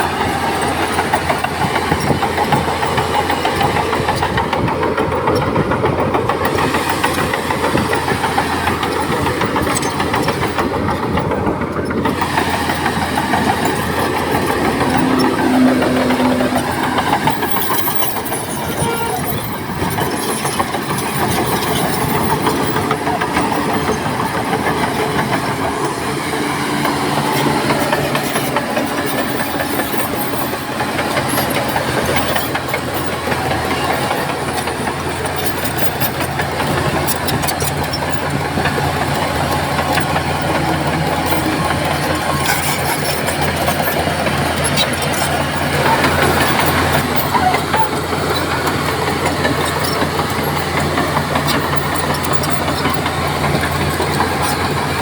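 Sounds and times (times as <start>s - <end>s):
bulldozer diesel engine running: 0.0s - 55.0s
metallic clanks and clicks: 0.0s - 55.0s.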